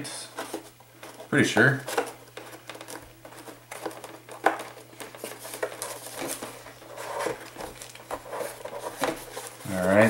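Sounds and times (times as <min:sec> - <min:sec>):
rustling: 0:00.1 - 0:10.0.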